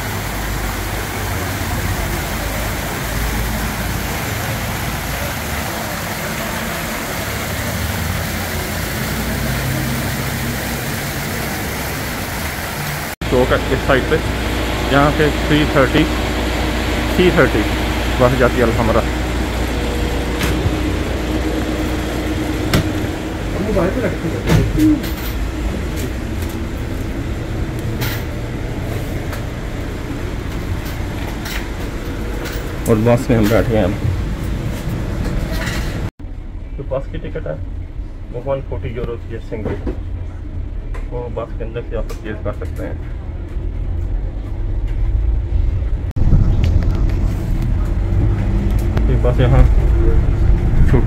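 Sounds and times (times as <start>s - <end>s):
steady traffic hiss: 0.0s - 43.0s
vehicle engines humming: 0.0s - 51.0s.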